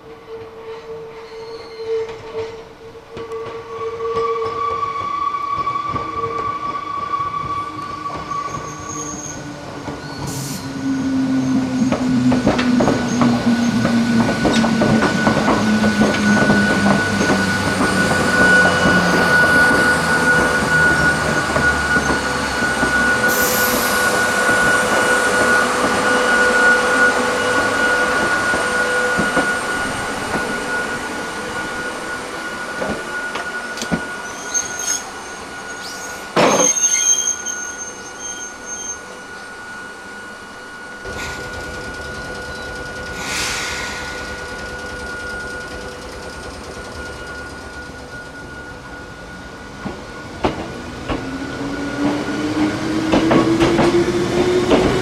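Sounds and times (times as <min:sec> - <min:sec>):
train wheels squealing: 0:00.1 - 0:55.0
train whine falling in pitch: 0:00.8 - 0:55.0.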